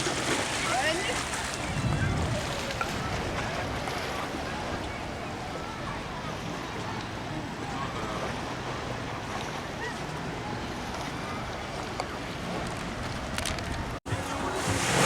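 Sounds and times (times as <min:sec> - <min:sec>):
wind buffeting microphone: 0:00.0 - 0:14.0
waves washing on rocks: 0:00.0 - 0:15.0.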